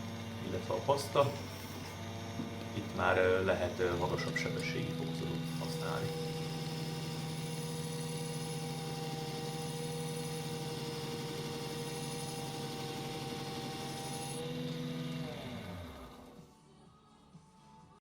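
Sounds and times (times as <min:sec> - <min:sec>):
grinder spinning down: 0:00.0 - 0:16.5
belt grinder motor hum and whine: 0:00.0 - 0:16.6.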